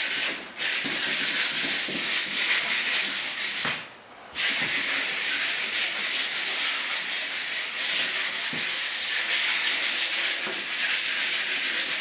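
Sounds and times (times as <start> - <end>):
sandpaper rubbing on door: 0.0 - 3.8, 4.4 - 12.0.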